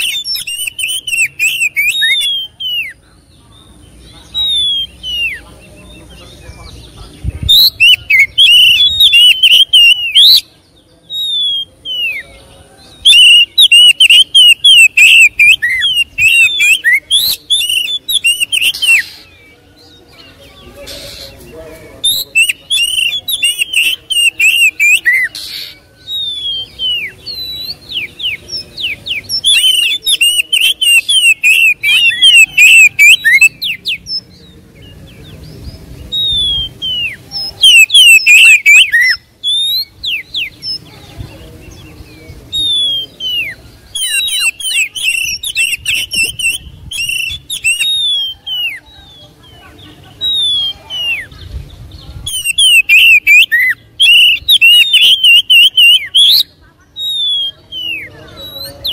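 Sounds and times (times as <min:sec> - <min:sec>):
songbird whistling and trilling: 0:00.0 - 0:06.3, 0:07.3 - 0:21.4, 0:22.0 - 0:40.9, 0:41.6 - 0:49.4, 0:50.2 - 0:58.9.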